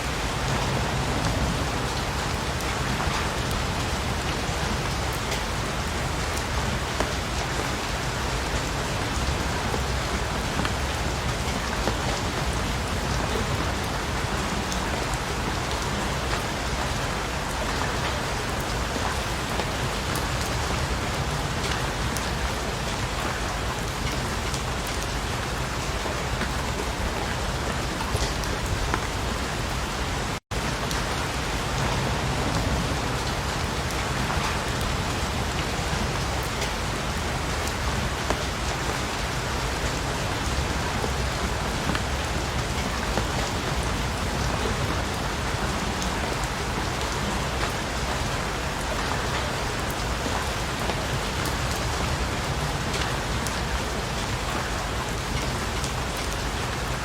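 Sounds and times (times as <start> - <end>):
patter of raindrops: 0.0 - 57.0
steady rain falling: 0.0 - 57.0.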